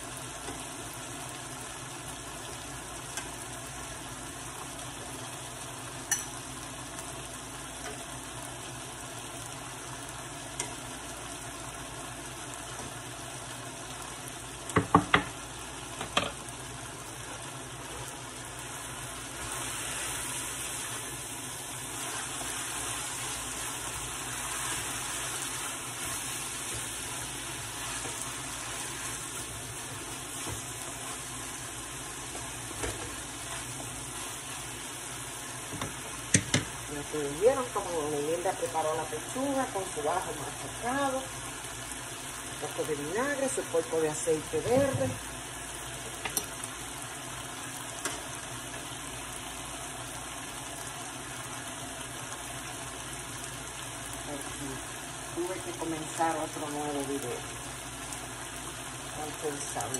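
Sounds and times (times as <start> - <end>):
meat and vegetables sizzling in skillet: 0.0 - 59.9
plantain slices frying in pan: 0.0 - 59.9.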